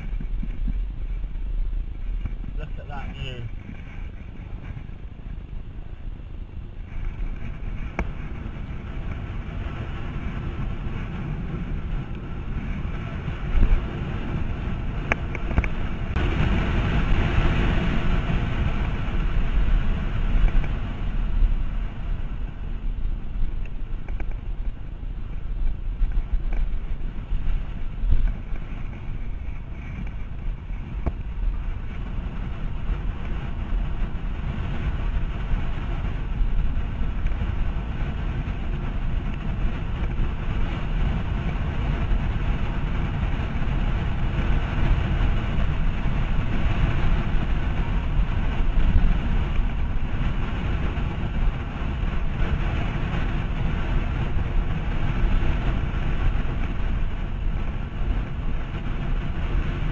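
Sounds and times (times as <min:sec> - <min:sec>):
tyres rumbling on asphalt: 0:00.0 - 0:59.9
wind rushing over microphone: 0:00.0 - 0:59.9.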